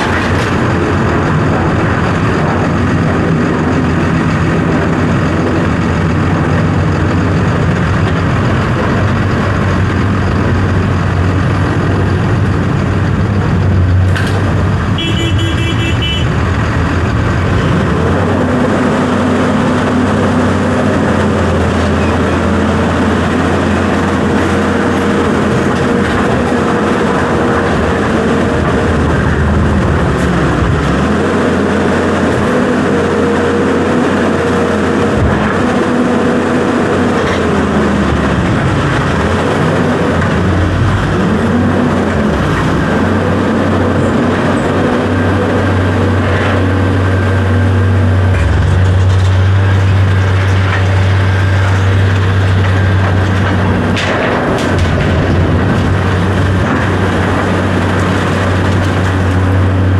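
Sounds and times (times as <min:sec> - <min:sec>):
heavy equipment engine running: 0:00.0 - 0:59.9.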